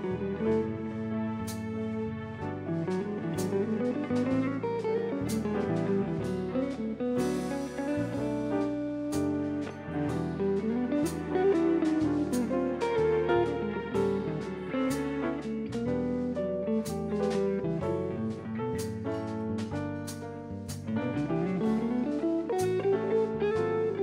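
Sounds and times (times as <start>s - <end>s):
electric guitar melody: 0.0s - 24.0s
slow jazz ballad: 0.0s - 24.0s.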